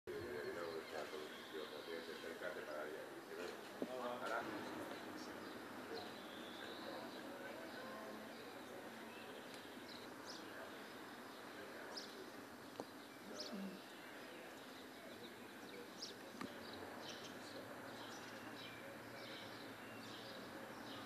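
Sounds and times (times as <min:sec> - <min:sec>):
birds chirping: 0:00.1 - 0:21.0
steady background hiss: 0:00.1 - 0:21.0.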